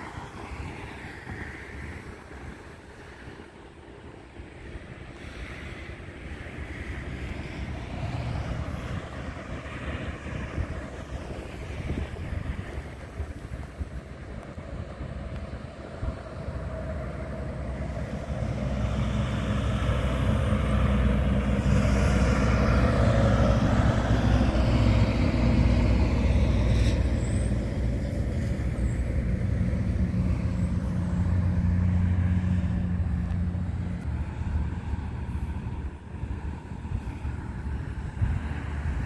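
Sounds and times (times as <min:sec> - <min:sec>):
truck engine and tyre rumble: 0:00.0 - 0:39.0.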